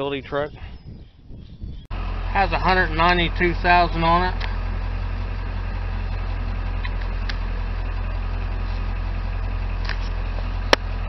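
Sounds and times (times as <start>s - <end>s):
diesel engine idling: 1.9s - 11.0s.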